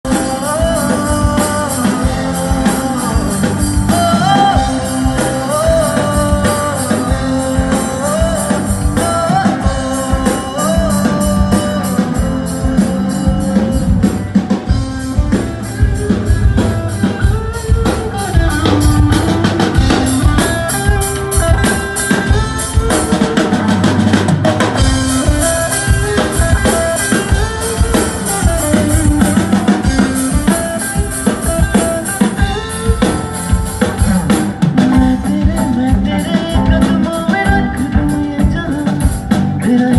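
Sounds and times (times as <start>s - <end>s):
rock band music: 0.0s - 39.9s.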